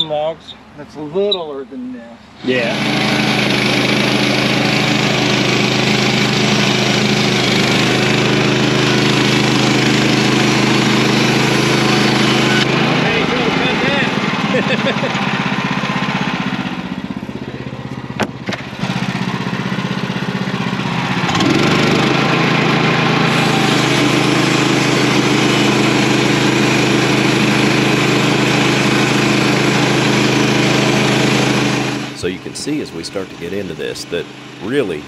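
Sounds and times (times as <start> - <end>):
saw cutting log: 2.4 - 16.9, 18.2 - 19.6, 21.0 - 35.0
sawmill engine running: 2.4 - 35.0.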